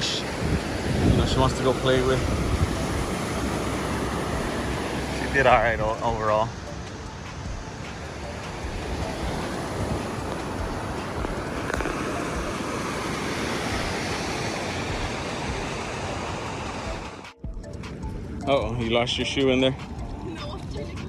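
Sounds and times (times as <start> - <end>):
ocean waves washing on beach: 0.0 - 20.1
wind rumbling on microphone: 0.0 - 21.0.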